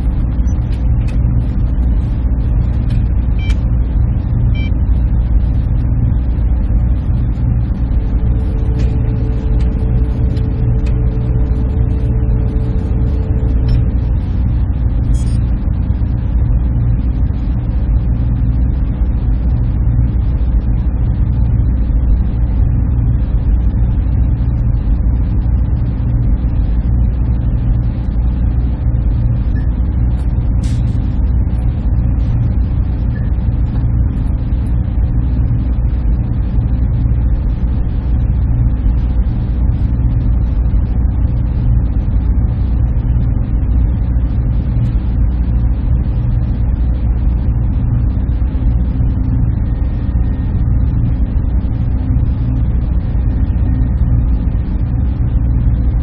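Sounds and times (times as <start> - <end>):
server room machine drone: 0.0 - 56.0.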